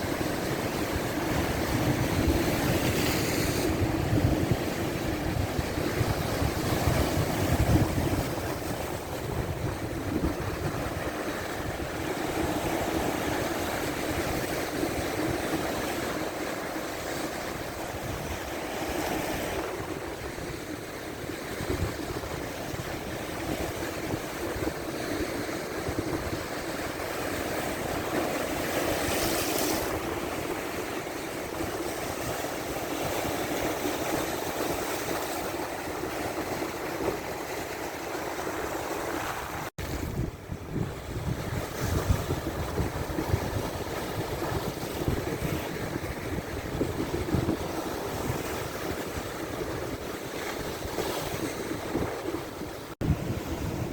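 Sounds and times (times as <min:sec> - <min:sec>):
wind buffeting microphone: 0:00.0 - 0:16.4, 0:17.4 - 0:53.9
waves breaking on shore: 0:00.0 - 0:53.9.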